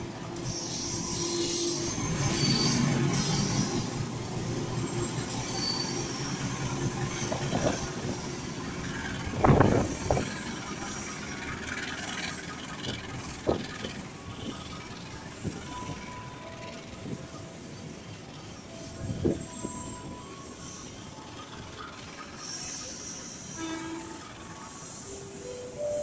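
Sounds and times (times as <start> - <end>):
train rolling over rails: 0.0 - 26.0.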